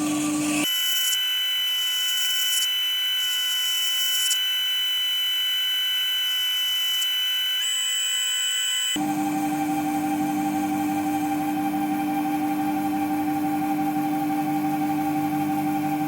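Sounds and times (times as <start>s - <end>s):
micro lathe whining: 0.0s - 16.0s.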